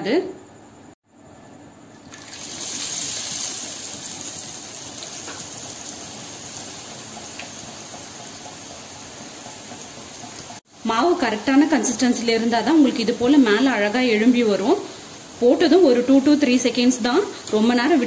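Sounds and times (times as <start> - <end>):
batter sizzling in hot oil: 2.0 - 18.0.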